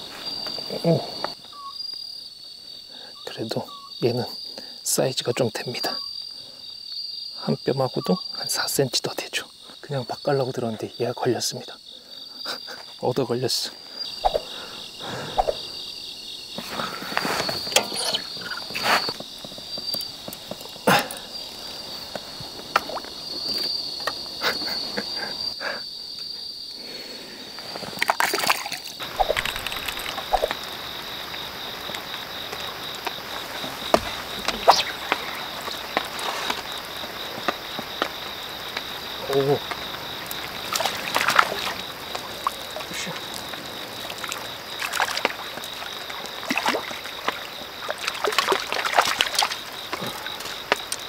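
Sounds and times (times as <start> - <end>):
crickets chirping: 0.0 - 51.0.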